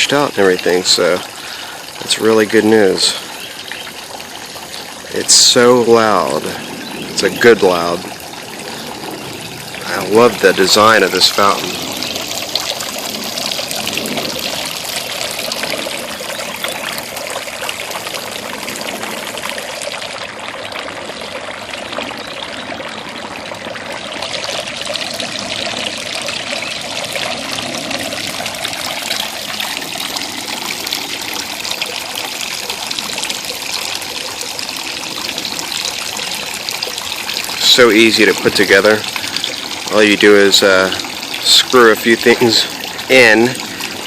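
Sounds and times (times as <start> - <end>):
fountain water splashing: 0.0 - 44.0.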